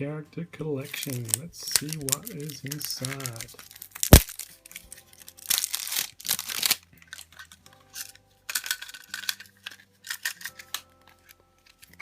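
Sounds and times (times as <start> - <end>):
wrapper crinkling and tearing: 0.9 - 12.0.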